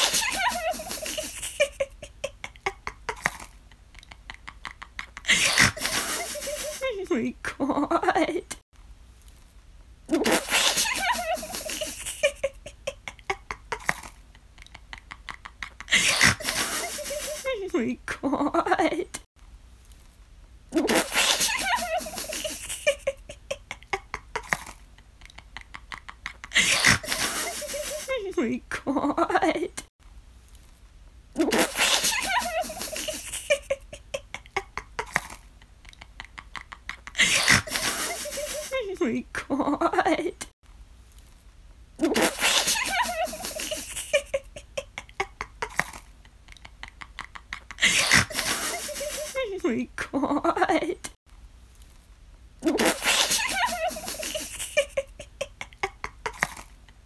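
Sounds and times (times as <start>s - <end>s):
person laughing: 0.0s - 8.6s, 10.1s - 19.3s, 20.7s - 29.9s, 31.4s - 40.5s, 42.0s - 51.2s, 52.6s - 56.8s.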